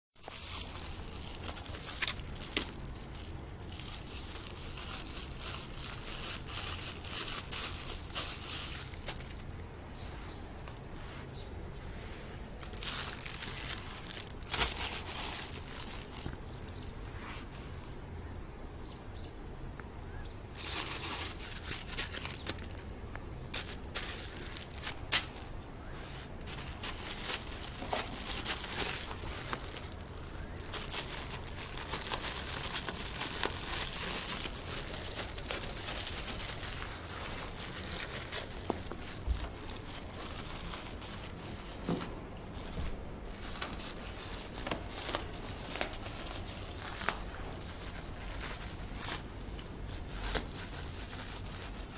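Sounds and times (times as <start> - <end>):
plastic bag crinkling: 0.2 - 10.7, 12.4 - 17.6, 20.6 - 51.9.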